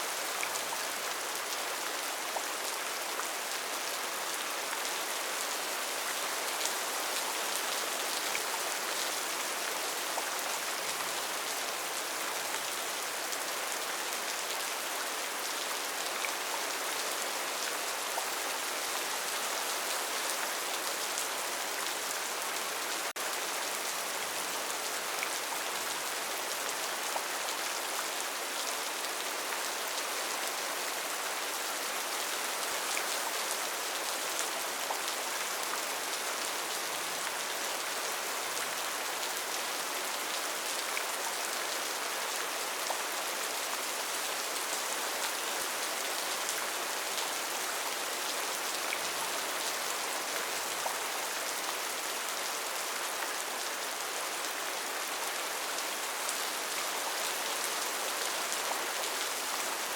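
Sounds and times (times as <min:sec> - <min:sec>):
rain on leaves: 0:00.0 - 0:59.9.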